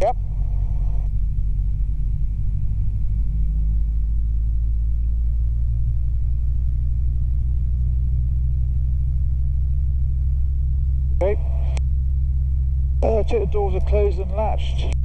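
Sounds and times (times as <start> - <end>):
helicopter engine and rotors droning: 0.0 - 15.0.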